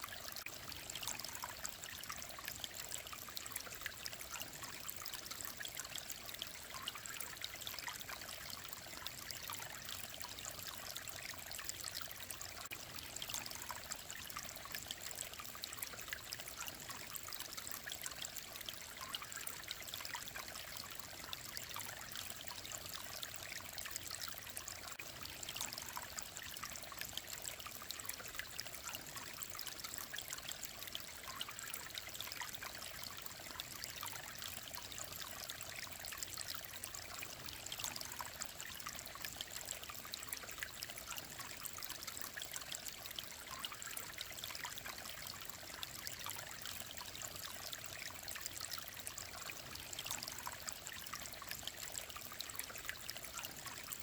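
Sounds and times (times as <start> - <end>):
stream rushing and trickling: 0.0 - 54.0.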